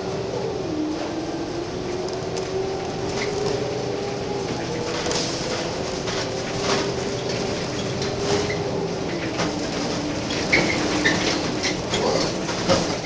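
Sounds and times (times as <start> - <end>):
bus body rattling and clicking: 0.0 - 13.0
bus engine whine: 0.0 - 13.0.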